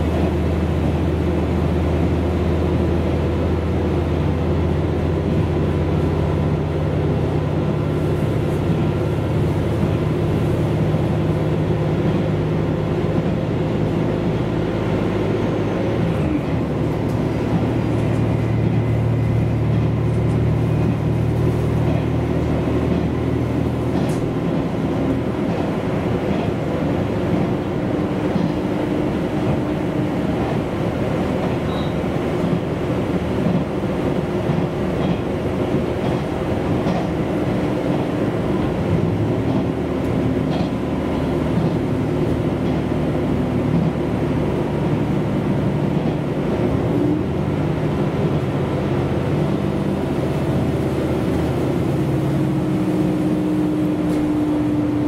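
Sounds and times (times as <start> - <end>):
diesel engine drone: 0.0 - 55.0
wheel and rail noise: 0.0 - 55.0.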